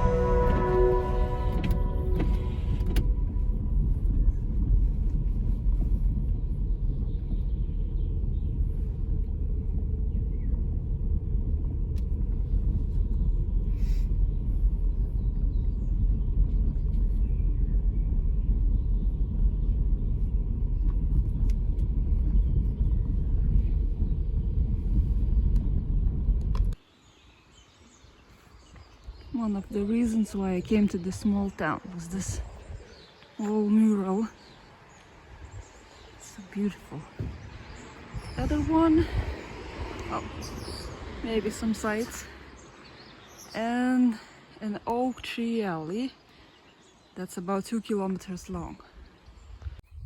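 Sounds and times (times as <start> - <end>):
car road and engine rumble: 0.0 - 27.0, 28.6 - 47.2.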